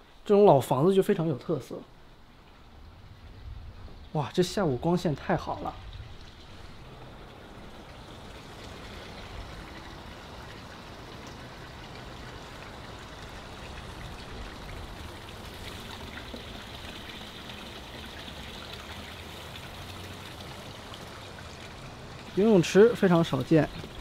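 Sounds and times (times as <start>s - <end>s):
water running: 4.1s - 24.0s.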